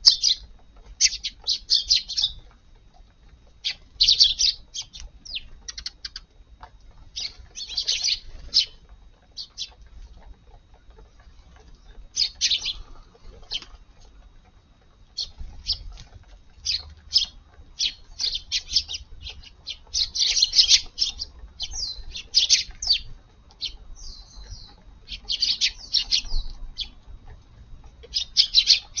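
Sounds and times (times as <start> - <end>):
sparrows chirping: 0.0 - 6.3, 7.0 - 14.2, 15.0 - 27.1, 27.8 - 29.0.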